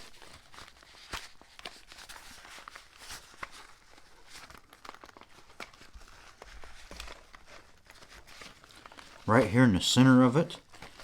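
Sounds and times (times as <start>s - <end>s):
nylon pouch rustling: 0.0s - 11.0s.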